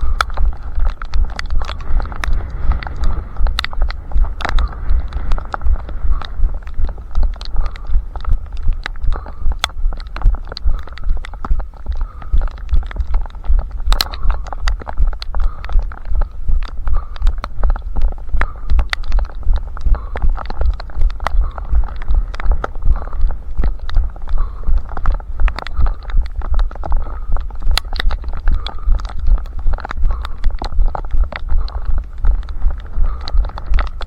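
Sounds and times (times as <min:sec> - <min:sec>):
faint steady hum: 0:00.0 - 0:34.0
sharp ticks and clicks: 0:00.0 - 0:34.0.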